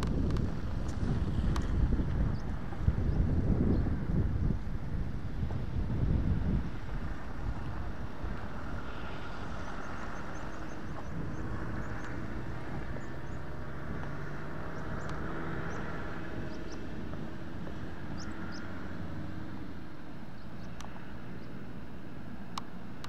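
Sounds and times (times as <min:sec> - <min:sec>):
diesel engines running: 0:00.0 - 0:23.0.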